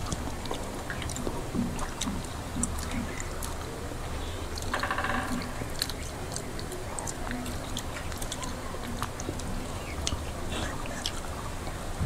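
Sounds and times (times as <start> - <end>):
lip and mouth clicks: 0.0 - 3.7, 4.5 - 11.4
soft wet chewing: 0.0 - 12.0.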